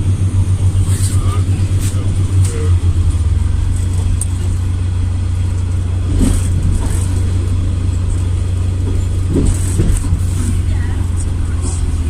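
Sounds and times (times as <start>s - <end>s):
vehicle interior rumble: 0.0s - 12.0s.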